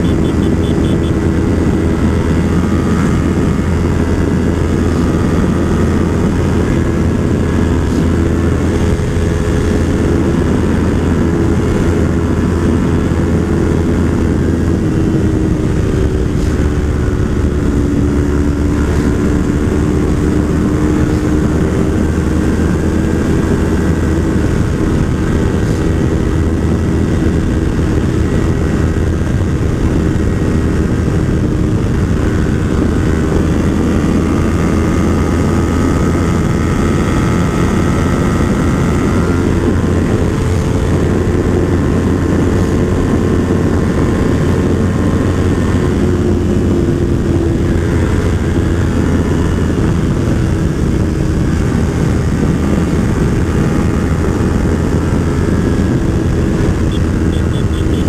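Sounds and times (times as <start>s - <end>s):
motorcycle engine at high speed: 0.0s - 58.0s
wind rush: 0.0s - 58.0s.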